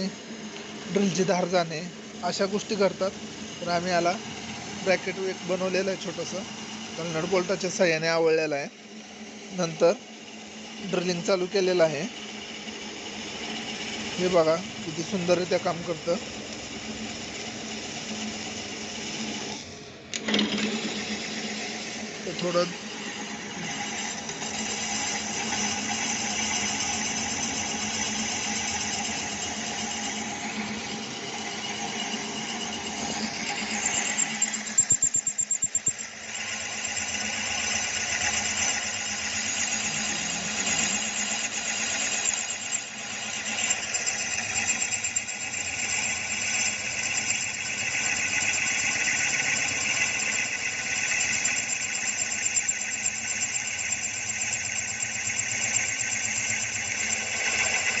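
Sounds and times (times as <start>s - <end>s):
drill bit chatter: 0.0s - 58.0s
drill cutting through metal: 0.0s - 58.0s.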